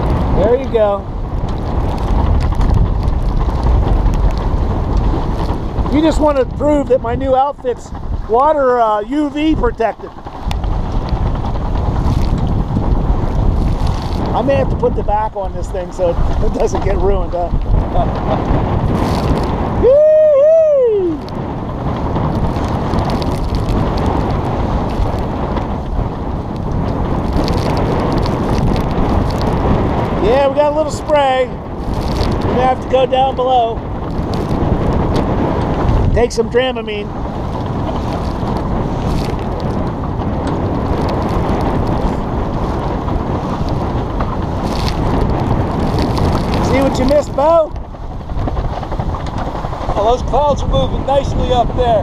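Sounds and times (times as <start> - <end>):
water rushing along hull: 0.0 - 52.0
wind buffeting microphone: 0.0 - 52.0.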